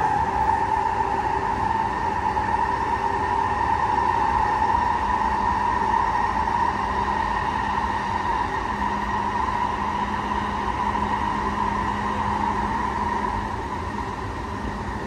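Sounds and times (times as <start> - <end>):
constant high hum: 0.0 - 15.0
train wheels rumbling on track: 0.0 - 15.0.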